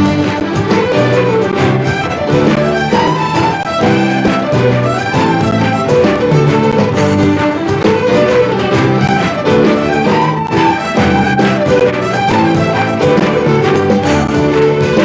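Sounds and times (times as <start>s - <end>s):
fiddle: 0.0s - 15.0s
folk band playing: 0.0s - 15.0s.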